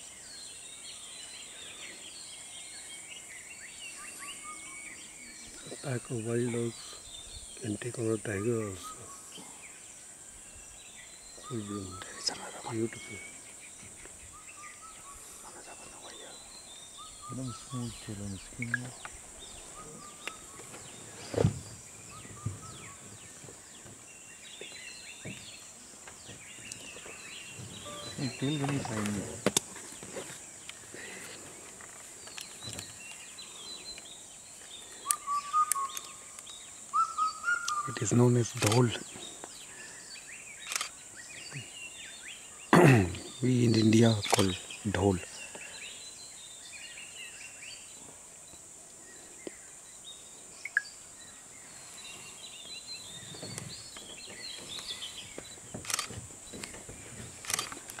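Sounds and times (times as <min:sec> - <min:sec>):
bird chirps: 0:00.0 - 0:58.0
high insect drone: 0:00.0 - 0:58.0.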